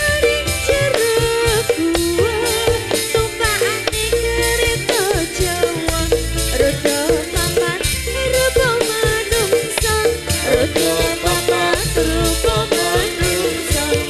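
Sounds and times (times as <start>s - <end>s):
deep bass notes: 0.0s - 14.0s
percussive beat: 0.0s - 14.0s
pitch-bending melody: 0.0s - 14.0s.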